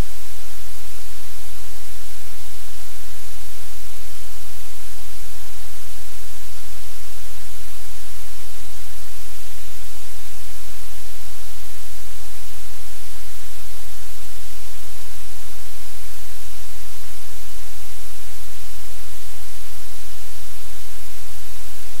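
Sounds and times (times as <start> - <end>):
loud static hiss: 0.0 - 22.0
low electrical hum: 0.0 - 22.0.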